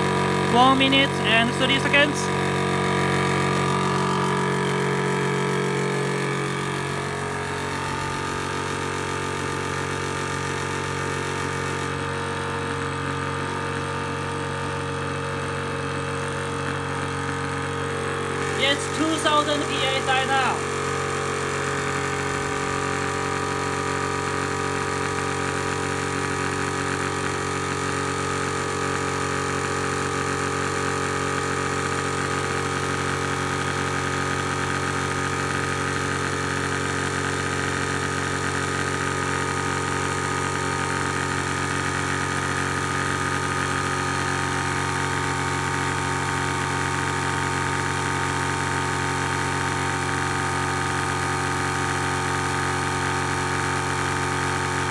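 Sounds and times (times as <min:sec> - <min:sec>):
air compressor running: 0:00.0 - 0:54.9.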